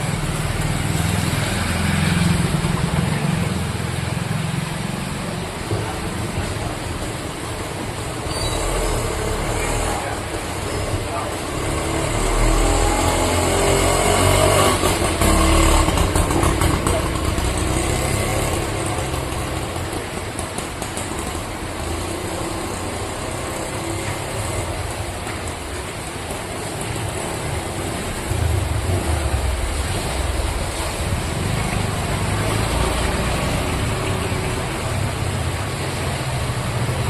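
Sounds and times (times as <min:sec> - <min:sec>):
road traffic rumbling: 0:00.0 - 0:37.0.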